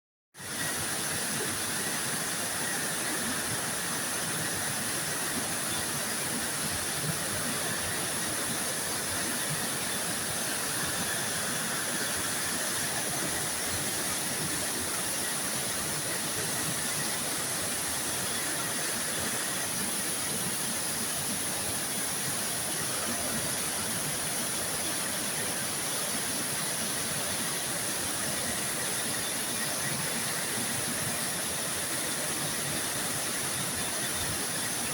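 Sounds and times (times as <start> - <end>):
waterfall rushing: 0.4 - 34.9.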